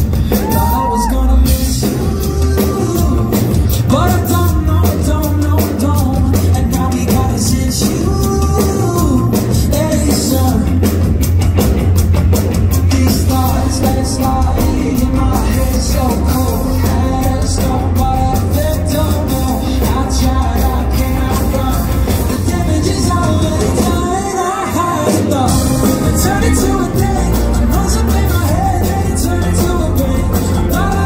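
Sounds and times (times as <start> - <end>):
live rock band playing: 0.0 - 31.0
man singing into microphone: 0.4 - 11.0, 12.8 - 31.0.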